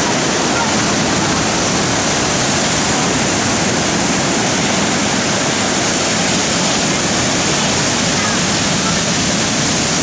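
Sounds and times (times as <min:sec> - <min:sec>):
storm surf roaring: 0:00.0 - 0:10.0.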